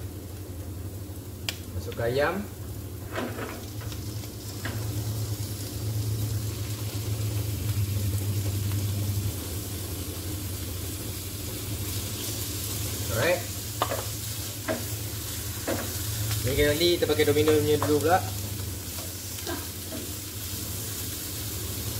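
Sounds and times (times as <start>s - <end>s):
chicken sizzling in hot oil: 0.0s - 21.9s
steady low hum: 0.0s - 21.9s.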